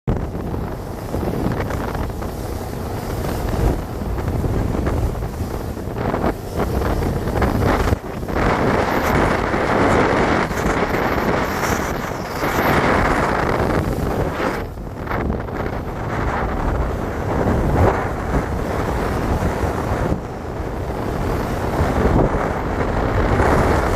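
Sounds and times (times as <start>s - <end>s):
wind buffeting microphone: 0.1s - 23.9s.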